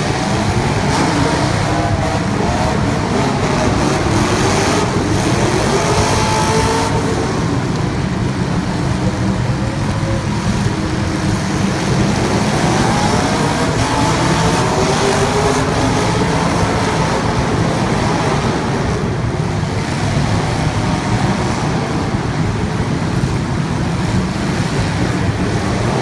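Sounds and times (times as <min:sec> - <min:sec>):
race car engines: 0:00.0 - 0:26.0.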